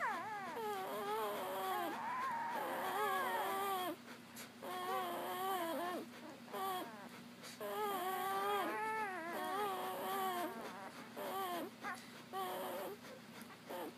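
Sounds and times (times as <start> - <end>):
puppies whining: 0.0 - 13.9.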